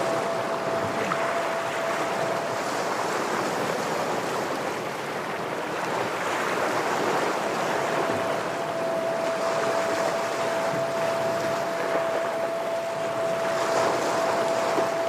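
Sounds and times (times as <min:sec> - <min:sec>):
thin steady tone: 0:00.0 - 0:05.7, 0:06.5 - 0:15.0
ocean waves against rocks: 0:00.0 - 0:15.0.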